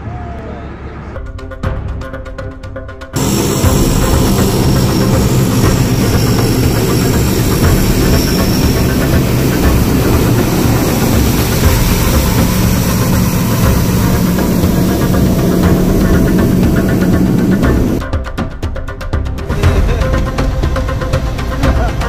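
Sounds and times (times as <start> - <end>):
turboprop engines droning: 0.0 - 18.3.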